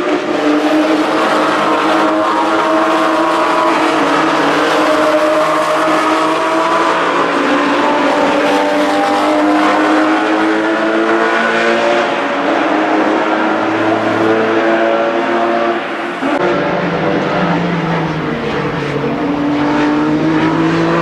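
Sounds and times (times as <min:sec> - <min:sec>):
sports car engine at high revs: 0:00.0 - 0:21.0.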